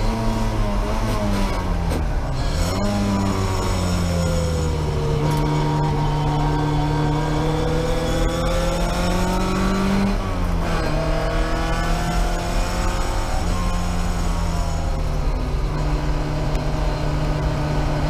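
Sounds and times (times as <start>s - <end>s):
car engine running hard: 0.0s - 18.0s.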